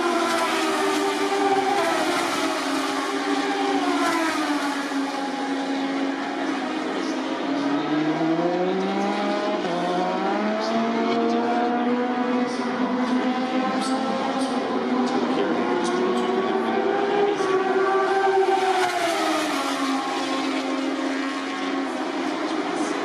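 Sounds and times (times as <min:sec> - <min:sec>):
racing motorcycle engines: 0:00.0 - 0:23.0.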